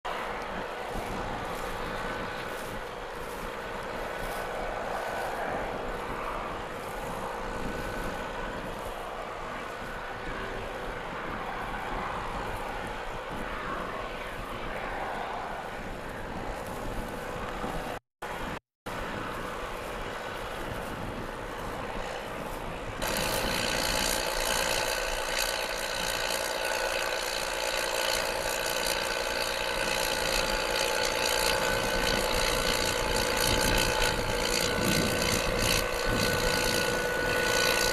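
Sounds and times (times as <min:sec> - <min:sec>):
high engine whine: 0:00.0 - 0:37.9
tractor diesel engine droning: 0:00.0 - 0:37.9.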